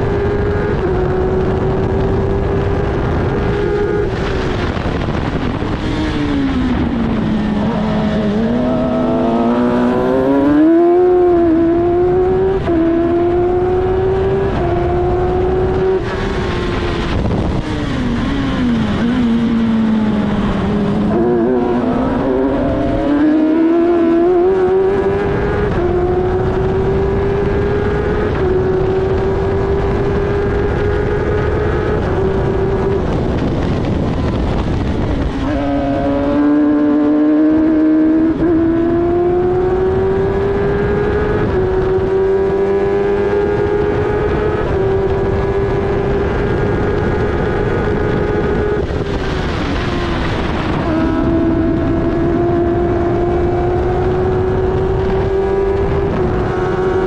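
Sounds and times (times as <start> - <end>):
racing car engine with upshifts: 0.0 - 57.0.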